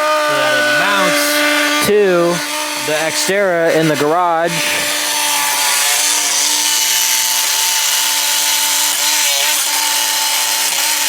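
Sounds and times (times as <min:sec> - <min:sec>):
power tool cutting plastic: 0:00.0 - 0:11.0.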